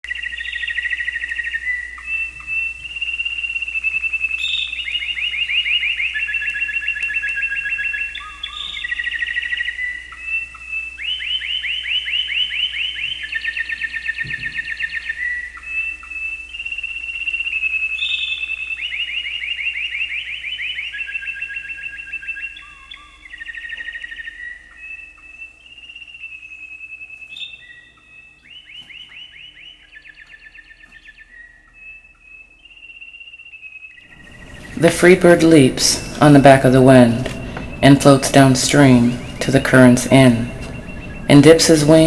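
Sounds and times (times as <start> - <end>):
songbird singing: 0.0 - 42.0.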